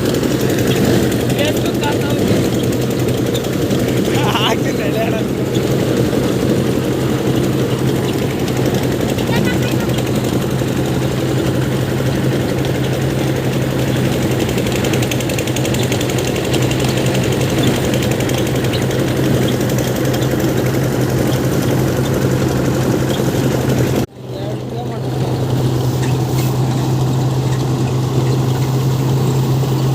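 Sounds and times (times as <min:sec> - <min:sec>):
thresher engine running with rattle: 0:00.0 - 0:29.9.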